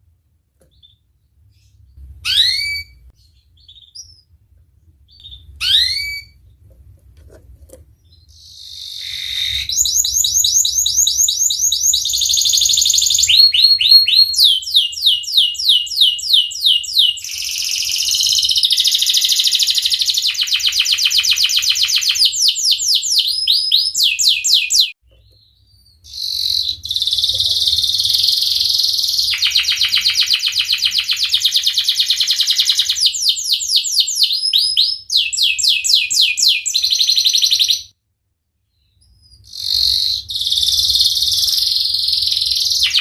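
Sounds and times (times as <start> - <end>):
canary singing rolling trills: 0.7 - 4.4, 5.0 - 6.7, 7.9 - 37.9, 38.7 - 43.0.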